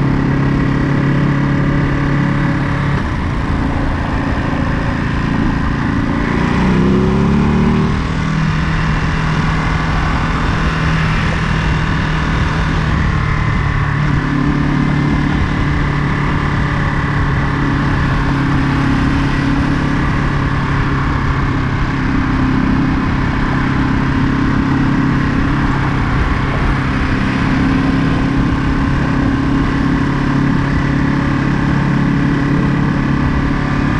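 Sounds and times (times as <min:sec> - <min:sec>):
low rushing noise: 0:00.0 - 0:33.9
motorcycle engine cruising: 0:00.0 - 0:33.9.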